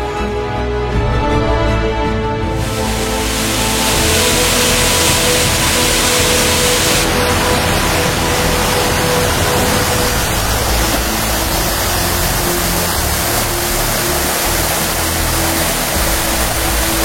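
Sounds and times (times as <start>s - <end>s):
waterfall roaring: 2.5s - 17.0s.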